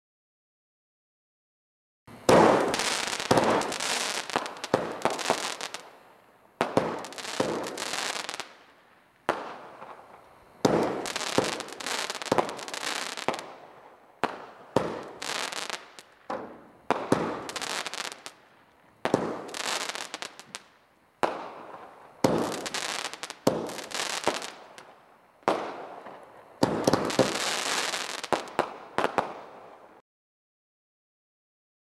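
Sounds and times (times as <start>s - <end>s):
fireworks firing and crackling: 2.1s - 30.0s.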